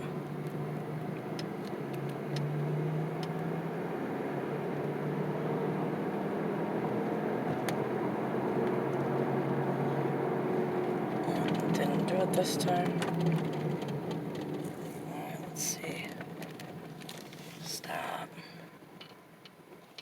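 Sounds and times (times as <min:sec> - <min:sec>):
car engine drone and road noise: 0:00.0 - 0:20.0.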